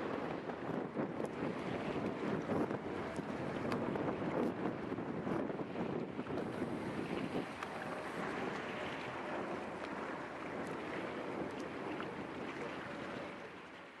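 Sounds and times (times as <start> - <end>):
wind and water rushing: 0.0 - 14.0
distant boat engines humming: 1.3 - 14.0.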